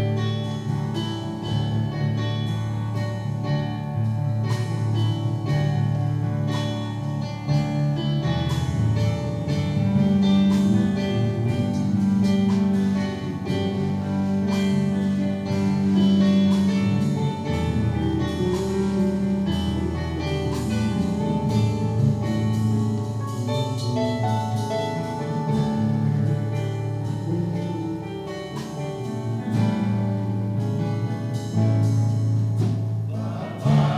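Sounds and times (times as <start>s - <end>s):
church song with guitar and drums: 0.0s - 33.9s.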